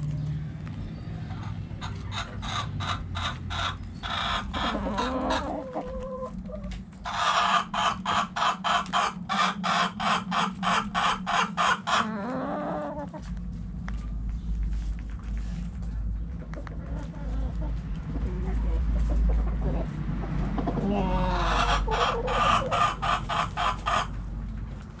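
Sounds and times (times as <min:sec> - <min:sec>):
hens clucking: 0:00.6 - 0:25.0.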